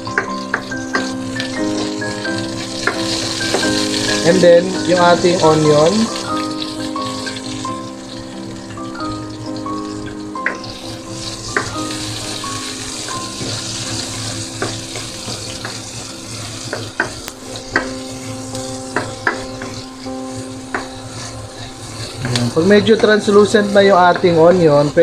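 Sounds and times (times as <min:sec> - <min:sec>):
onion sizzling in hot oil: 0:00.0 - 0:25.0
spatula scraping a pan: 0:00.0 - 0:25.0.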